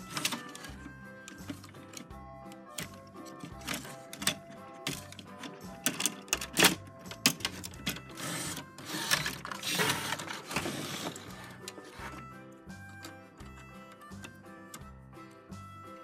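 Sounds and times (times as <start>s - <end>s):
plastic parts clicking and knocking: 0.0s - 14.9s
background music: 0.0s - 16.0s.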